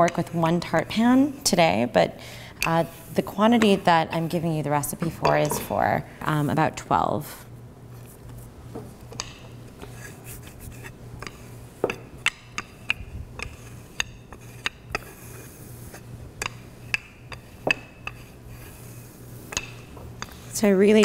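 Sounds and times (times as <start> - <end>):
rolling pin rubbing dough: 0.0 - 7.1, 7.9 - 21.0.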